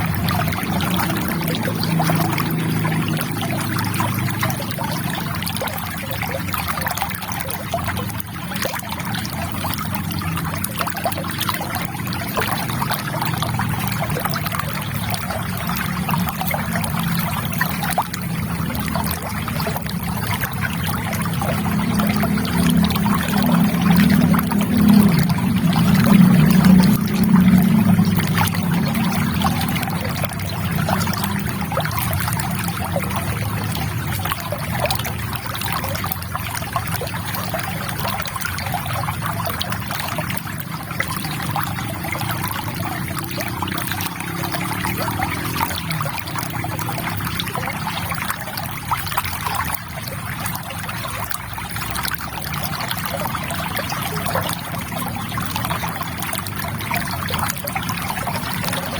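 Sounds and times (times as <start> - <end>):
low water burble: 0.0 - 58.9
river water flowing: 0.0 - 58.9.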